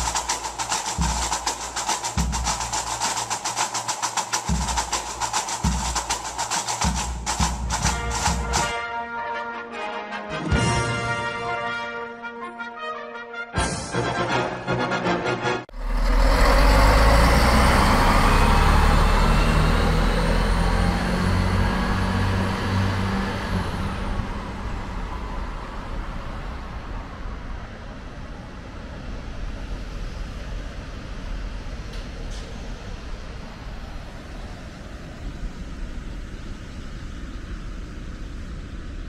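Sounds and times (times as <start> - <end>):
train wheels rumbling on rails: 0.0 - 8.8, 15.7 - 39.0.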